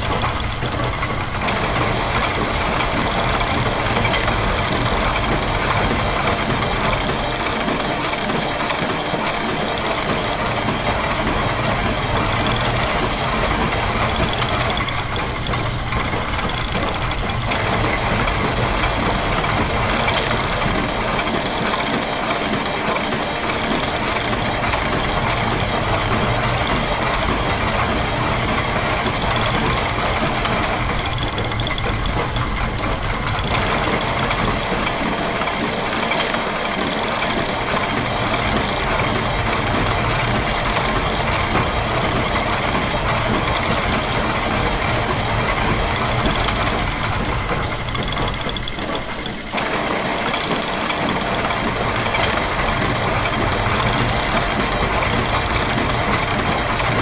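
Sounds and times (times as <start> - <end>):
clockwork ticking: 0.0 - 57.0
gears turning: 0.0 - 57.0
sewing machine running: 0.0 - 57.0.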